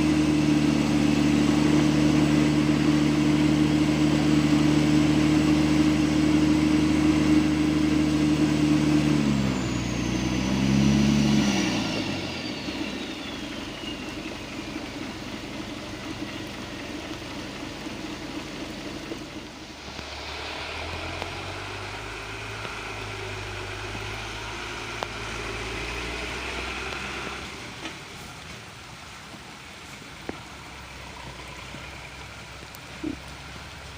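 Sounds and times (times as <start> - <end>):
diesel truck engine: 0.0 - 33.9
faint low engine hum: 0.0 - 33.9.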